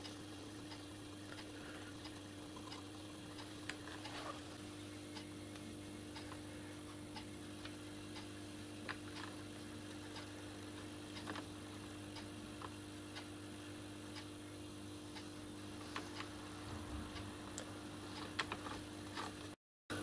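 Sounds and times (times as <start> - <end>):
faint regular ticking: 0.0 - 19.4
steady low hum: 0.0 - 20.0.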